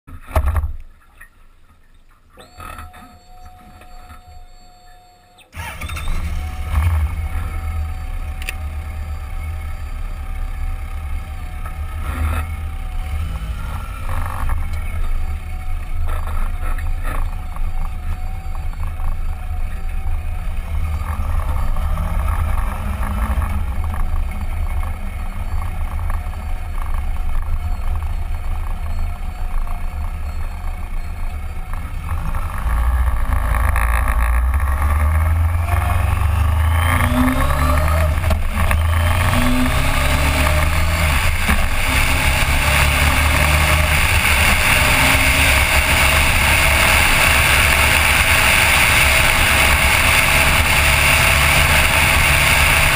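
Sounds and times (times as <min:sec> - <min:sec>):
air and road noise: 0:00.1 - 0:52.9
motorcycle engine accelerating: 0:05.4 - 0:52.9.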